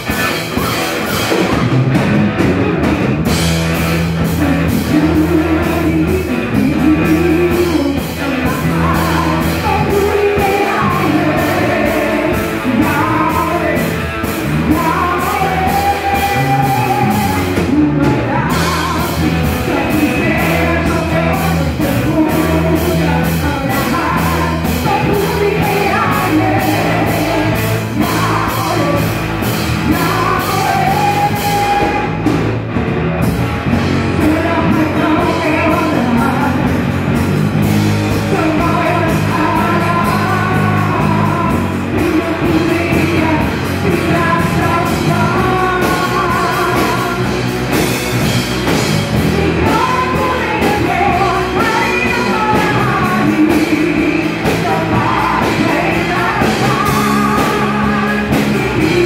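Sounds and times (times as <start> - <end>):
bass: 0.0 - 59.0
drums: 0.0 - 59.0
electric guitar: 0.0 - 59.0
woman singing: 4.2 - 32.2, 34.1 - 36.8, 38.2 - 47.4, 49.1 - 59.0.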